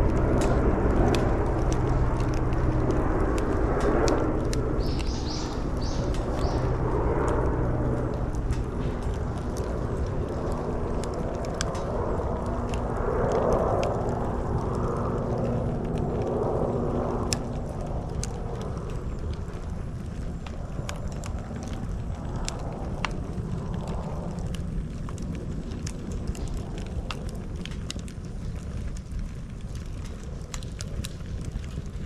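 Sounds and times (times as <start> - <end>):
fire crackling and popping: 0.0 - 32.0
low fire rumble: 0.0 - 32.0.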